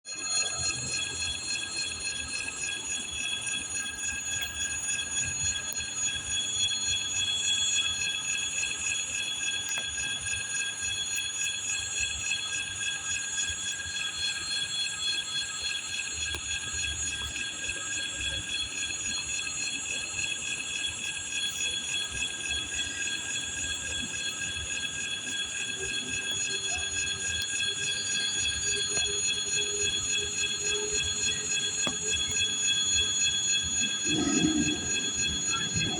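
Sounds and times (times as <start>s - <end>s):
high-pitched locomotive tones: 0.1s - 35.9s.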